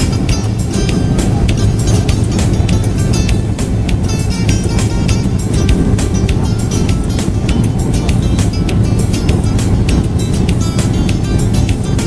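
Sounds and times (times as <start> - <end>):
music with a steady beat: 0.0 - 12.0.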